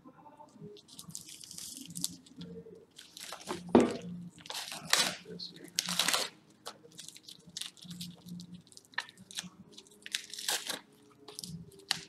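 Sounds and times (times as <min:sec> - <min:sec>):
plastic wrap peeling and tearing: 0:00.8 - 0:12.0.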